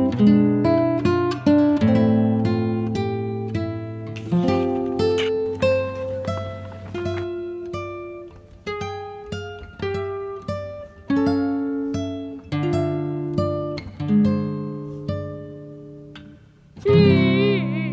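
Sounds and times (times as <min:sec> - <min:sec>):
acoustic guitar plucking: 0:00.0 - 0:17.9.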